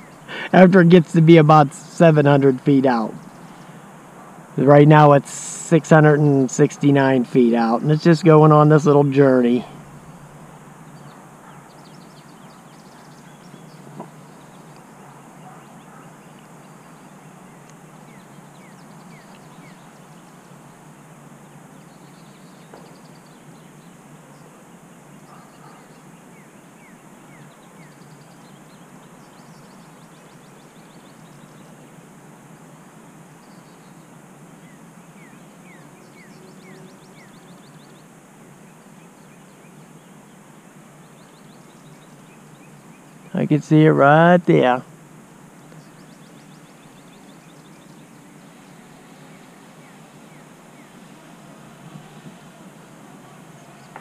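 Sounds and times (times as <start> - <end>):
outdoor background hush: 0.0 - 54.0
small birds chirping: 0.0 - 54.0.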